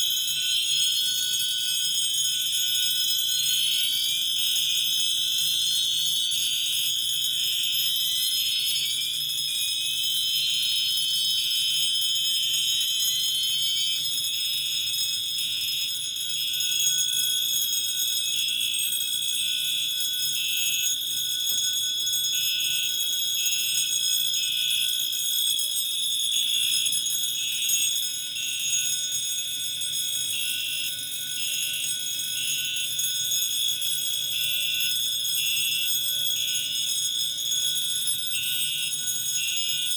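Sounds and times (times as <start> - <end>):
steady high-pitched alarm tone: 0.0 - 39.9.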